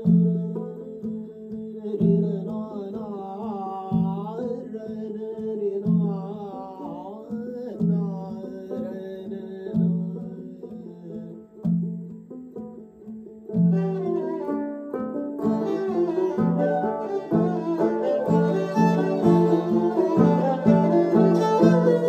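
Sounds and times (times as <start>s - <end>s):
bowed string instrument: 0.0s - 22.0s
plucked lute: 0.0s - 22.0s.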